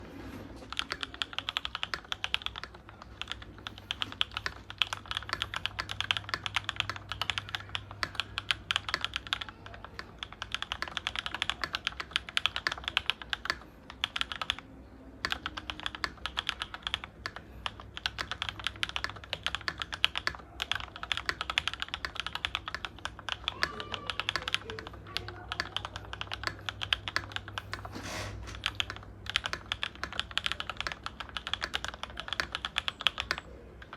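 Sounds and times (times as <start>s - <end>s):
fast typing on mechanical keyboard: 0.6s - 27.9s, 28.5s - 33.9s.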